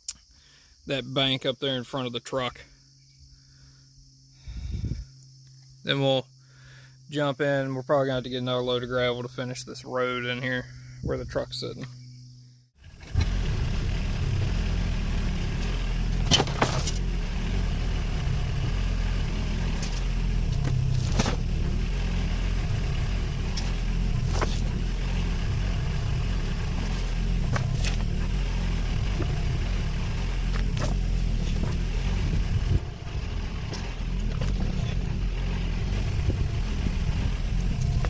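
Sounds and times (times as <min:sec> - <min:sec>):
engine deep rumble: 0:00.9 - 0:38.0.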